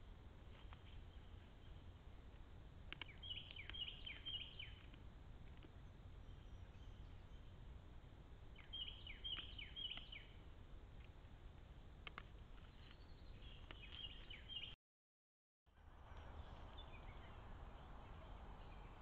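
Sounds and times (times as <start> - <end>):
faint low rumble: 0.0 - 14.6, 15.7 - 19.0
songbird chirping: 0.0 - 14.8, 15.8 - 19.0.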